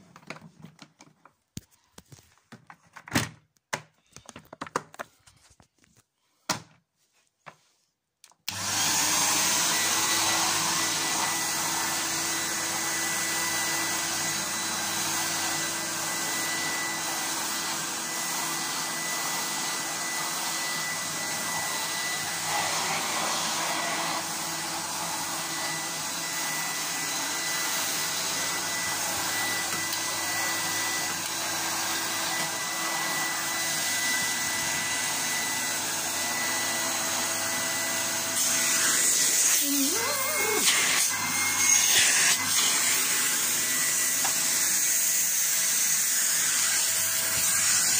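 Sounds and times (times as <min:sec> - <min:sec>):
vacuum cleaner running: 0:08.5 - 0:47.9.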